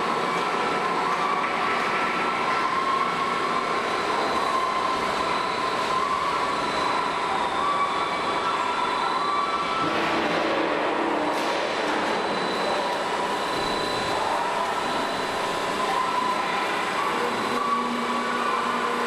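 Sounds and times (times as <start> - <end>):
plate rolling machine running: 0.0 - 19.0.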